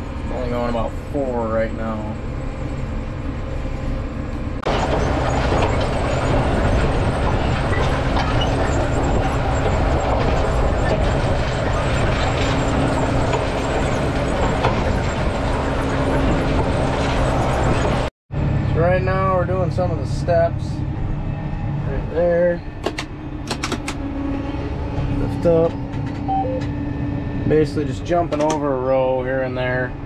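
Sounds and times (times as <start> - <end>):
tractor engine drone: 0.0 - 30.0.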